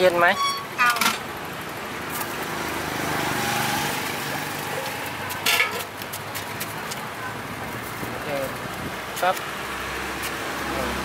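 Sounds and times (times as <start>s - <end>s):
motor vehicle passing: 1.4s - 11.0s.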